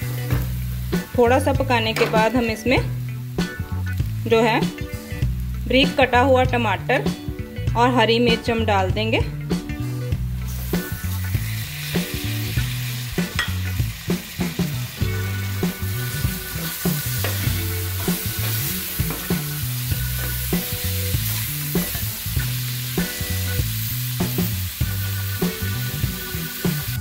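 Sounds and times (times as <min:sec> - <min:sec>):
vegetables sizzling in hot oil: 0:00.0 - 0:06.9, 0:10.2 - 0:27.0
background music with bass line: 0:00.0 - 0:27.0.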